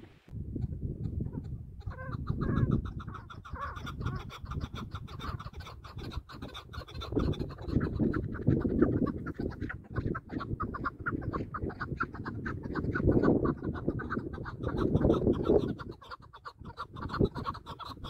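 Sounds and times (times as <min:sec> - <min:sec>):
partridge clucking calls: 0:01.0 - 0:18.0.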